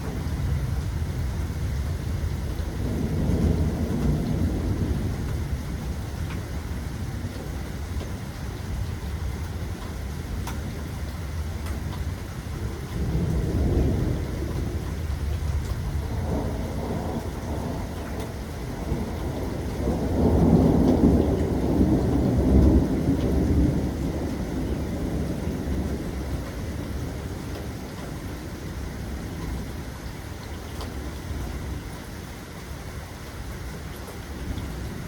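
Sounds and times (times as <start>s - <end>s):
rolling thunder: 0.0s - 29.8s
steady rain: 0.0s - 35.0s.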